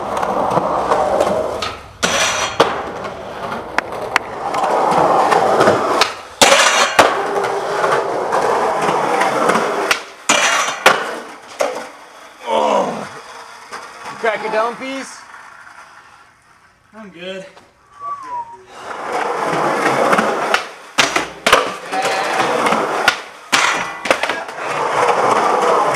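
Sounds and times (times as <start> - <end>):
skateboard clacking: 0.0 - 12.4, 13.2 - 16.6, 18.7 - 25.9
skateboard sliding on metal rail: 0.0 - 16.8, 18.4 - 25.9
skateboard wheels rolling on concrete: 0.0 - 25.9.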